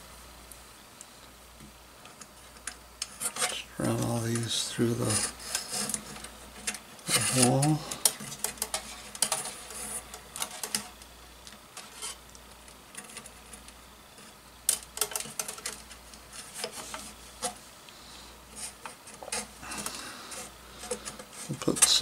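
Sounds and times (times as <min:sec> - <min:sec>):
wires rubbing and clicking: 0:02.0 - 0:22.0.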